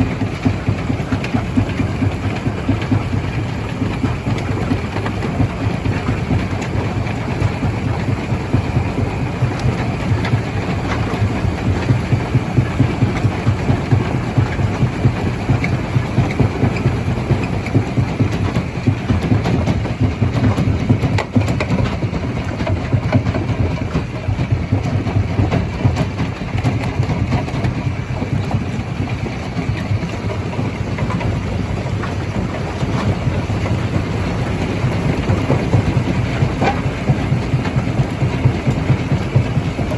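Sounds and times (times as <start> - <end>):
stone crusher machine rumbling: 0.0 - 39.9.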